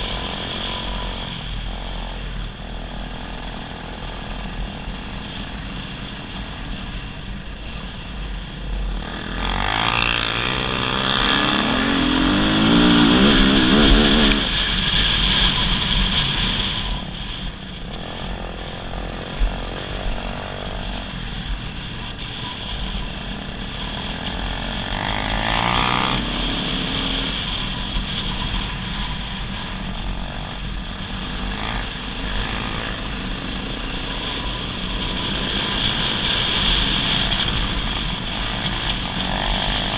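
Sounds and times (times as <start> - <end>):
dirt bike engine revving: 0.0 - 5.7, 8.7 - 17.0, 17.8 - 39.9.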